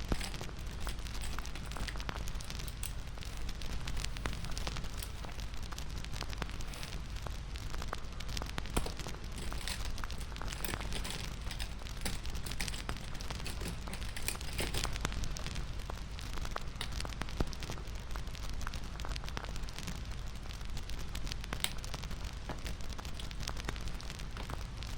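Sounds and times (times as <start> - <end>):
bonfire crackling: 0.0 - 24.9.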